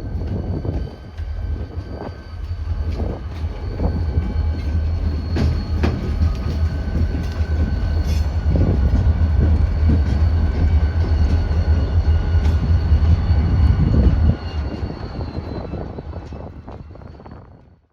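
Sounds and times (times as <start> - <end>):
diesel locomotive engine: 0.0 - 17.9.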